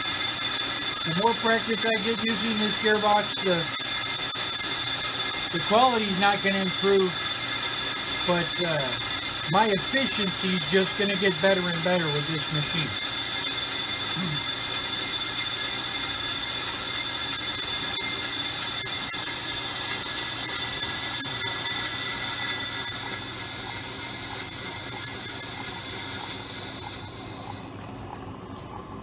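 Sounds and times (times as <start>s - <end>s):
lathe cutting brake rotor: 0.0s - 27.8s
lathe motor hum: 0.0s - 28.7s.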